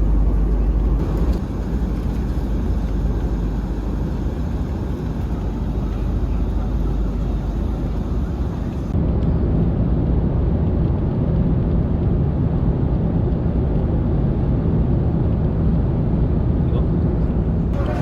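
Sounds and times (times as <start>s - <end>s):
vehicle rumble from inside: 0.0s - 18.0s.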